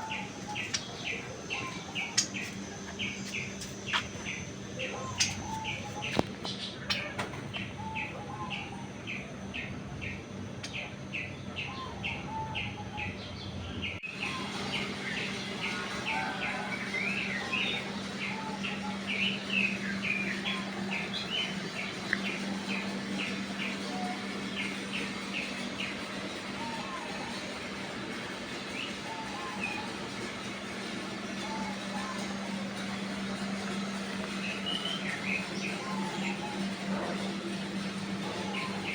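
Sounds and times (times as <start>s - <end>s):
birds calling lower: 0.0s - 38.9s
small birds chirping: 0.0s - 38.9s.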